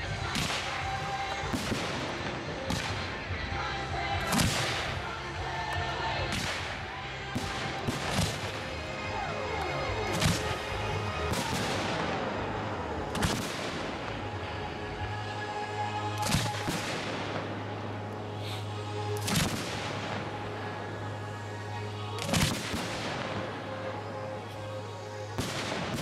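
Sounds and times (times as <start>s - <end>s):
fireworks bursting with echo: 0.0s - 5.5s, 6.2s - 15.3s, 16.1s - 26.0s
music playing: 0.0s - 26.0s.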